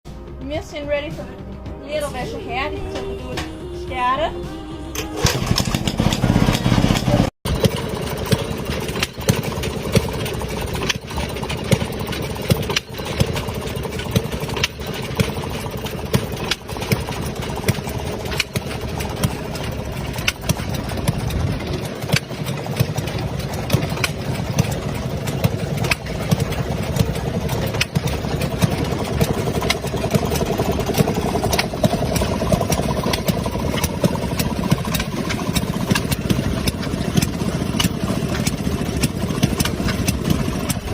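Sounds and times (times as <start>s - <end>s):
washing machine engine drone: 1.9s - 40.9s.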